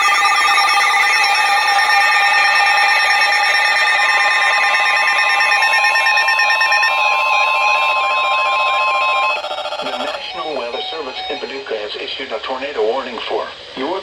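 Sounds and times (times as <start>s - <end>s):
warbling siren-like tone: 0.0s - 11.6s
steady electronic alarm tones: 0.0s - 11.7s.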